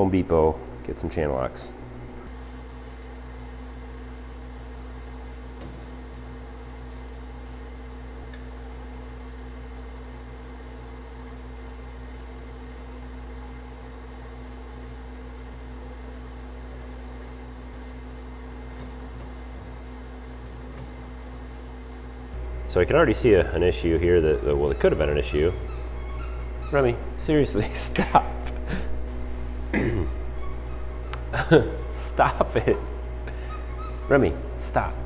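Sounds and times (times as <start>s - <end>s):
machine hum: 0.0s - 35.0s.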